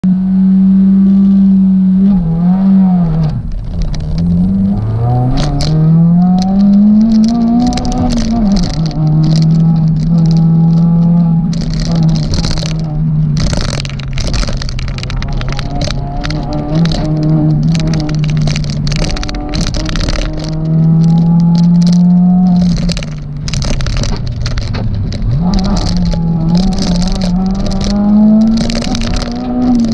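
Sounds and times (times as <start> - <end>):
car engine accelerating: 0.0 - 29.9
clicks and rattles: 3.2 - 29.9.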